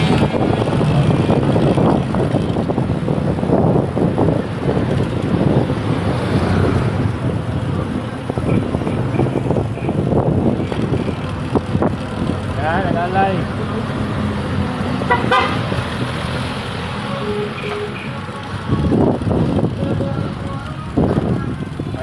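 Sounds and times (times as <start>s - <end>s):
road and traffic rumble: 0.0s - 22.0s.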